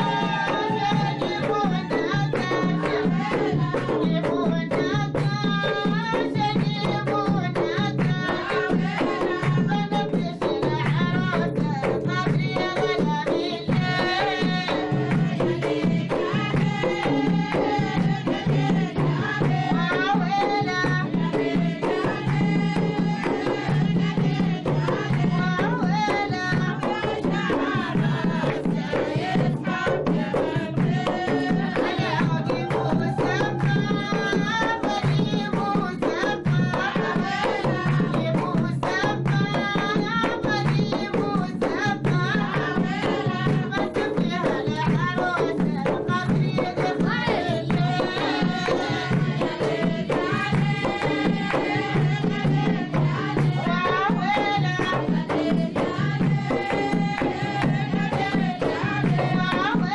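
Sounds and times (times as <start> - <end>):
hand drums beating: 0.0 - 59.9
rhythmic clapping: 0.0 - 59.9
women singing together: 0.0 - 59.9.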